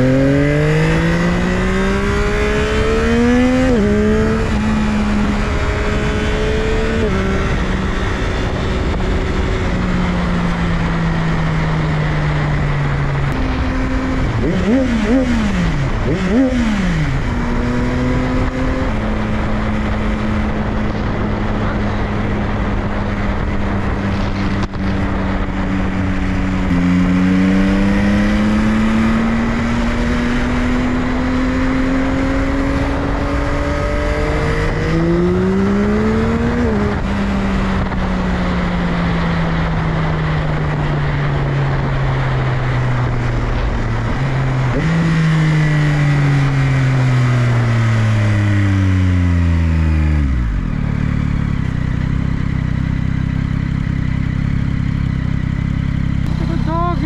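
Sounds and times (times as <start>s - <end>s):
motorcycle engine accelerating: 0.0s - 57.0s
wind noise: 0.0s - 57.0s.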